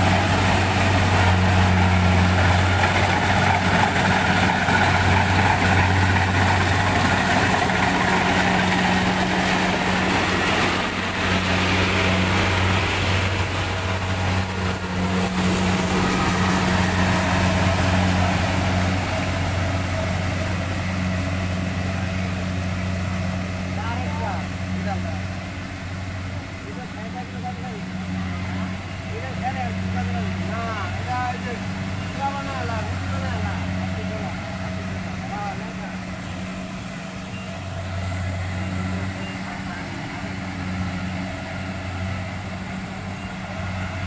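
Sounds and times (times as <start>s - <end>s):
diesel engine droning: 0.0s - 44.0s
noisy rush of harvesting machinery: 0.0s - 44.0s.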